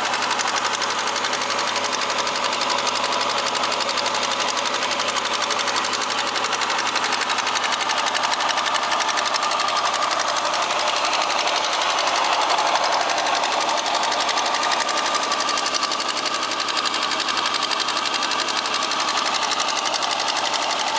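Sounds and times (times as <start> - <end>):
car engine running: 0.0 - 20.9
engine knock ticking: 0.0 - 20.9.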